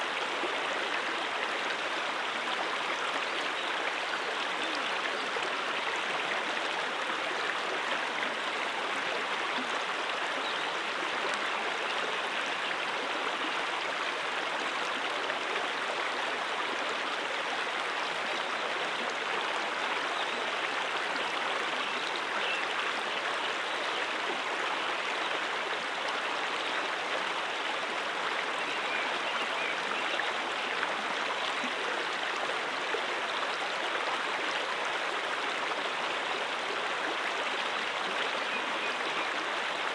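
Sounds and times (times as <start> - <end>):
brook water flowing over rocks: 0.0 - 39.9.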